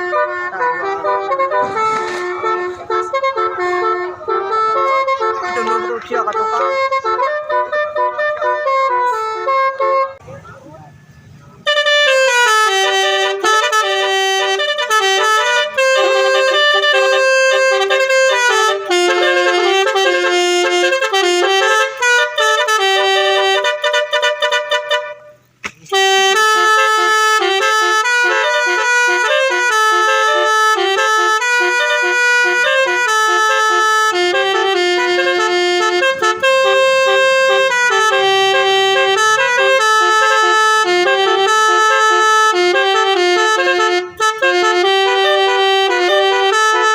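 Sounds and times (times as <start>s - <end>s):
multi-tone air horn melody: 0.0s - 10.4s, 11.6s - 46.9s.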